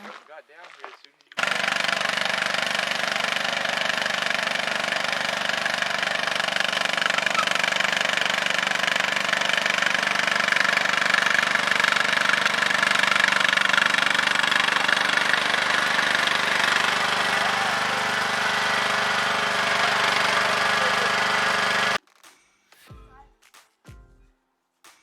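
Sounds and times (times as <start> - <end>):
vehicle motor humming with rattle: 1.4 - 22.0.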